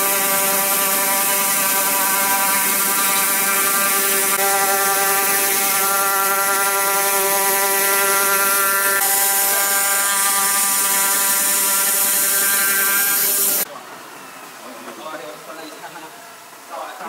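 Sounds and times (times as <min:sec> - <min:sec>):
oscillating knife mechanical buzz: 0:00.0 - 0:13.7.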